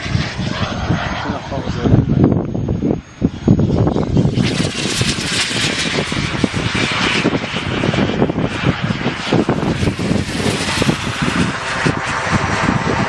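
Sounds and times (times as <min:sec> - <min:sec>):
jet turbine engine roar: 0:00.0 - 0:13.0
wind buffeting microphone: 0:00.0 - 0:13.0.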